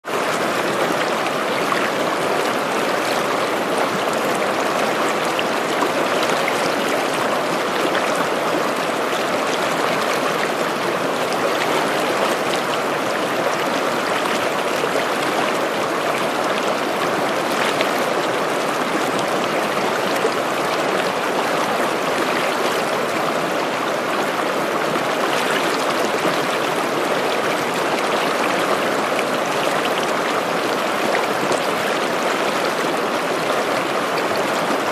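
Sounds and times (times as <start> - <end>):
stream babbling over rocks: 0.0 - 34.9.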